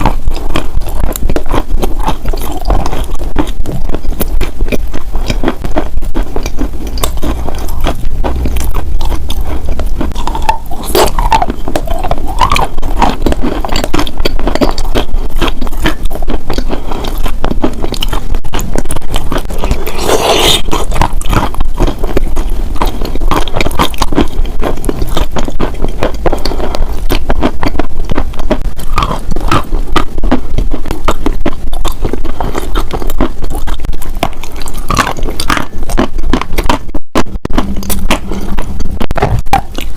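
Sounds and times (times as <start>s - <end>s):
close scratching and crackling: 0.0s - 39.9s.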